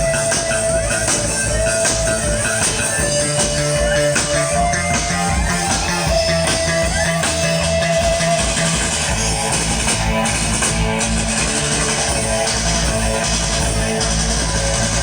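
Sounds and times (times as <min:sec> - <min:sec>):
band music: 0:00.0 - 0:15.0
bass guitar: 0:00.0 - 0:15.0
drums: 0:00.0 - 0:15.0
guitar: 0:00.0 - 0:15.0.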